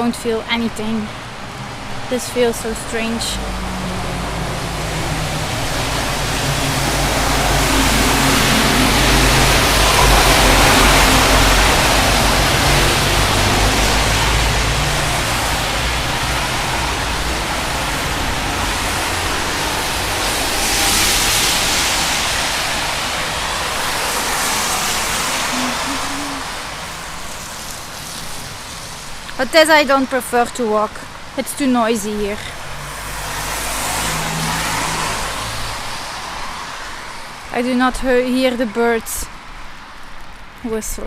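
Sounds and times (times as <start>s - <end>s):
traffic on a wet road: 0.0s - 41.0s
vehicle passing: 0.6s - 30.6s, 31.4s - 37.9s.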